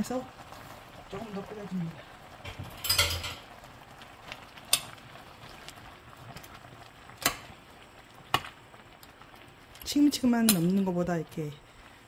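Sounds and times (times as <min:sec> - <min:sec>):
soup boiling and bubbling: 0:00.0 - 0:12.0.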